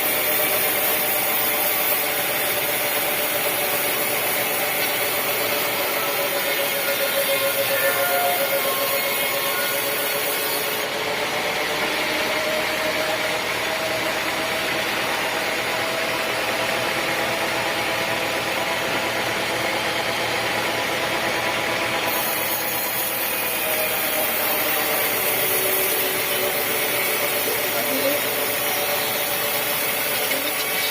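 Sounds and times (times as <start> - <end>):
sawmill saw cutting wood: 0.0 - 30.9.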